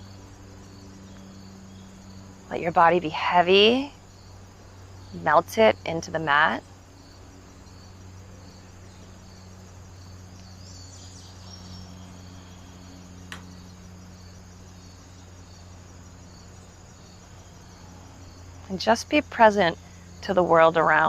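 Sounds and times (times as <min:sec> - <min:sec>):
crickets chirping: 0:00.0 - 0:21.0
low steady hum: 0:00.0 - 0:21.0.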